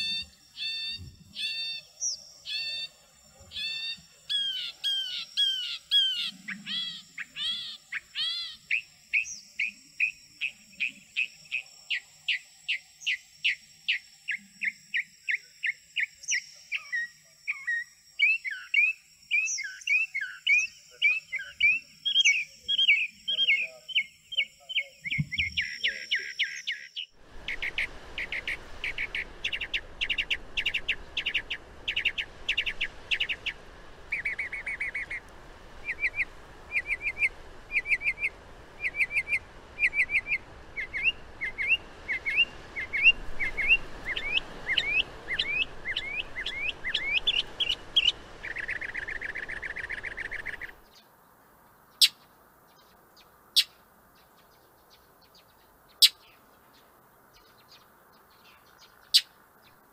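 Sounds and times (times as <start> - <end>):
mockingbird singing: 0.0 - 51.0
steady background hiss: 0.0 - 59.9.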